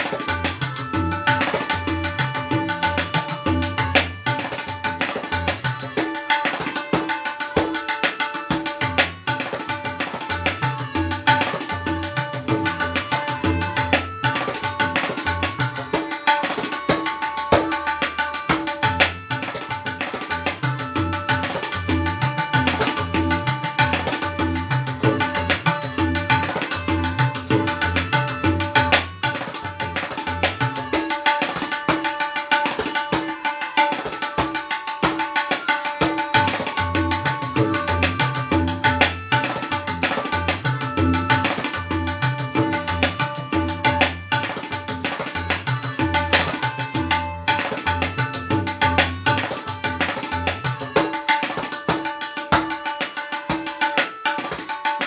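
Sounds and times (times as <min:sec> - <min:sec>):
tabla strokes: 0:00.0 - 0:55.0.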